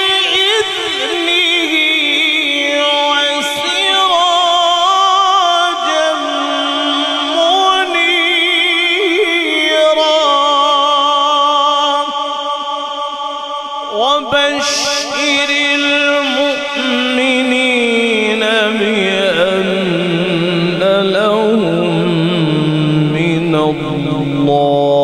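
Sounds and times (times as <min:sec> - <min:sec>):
man reciting melodically: 0:00.0 - 0:25.0.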